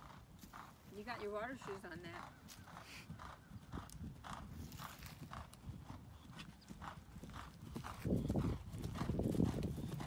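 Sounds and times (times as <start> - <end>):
horse hoofbeats clip-clop: 0.0 - 10.0.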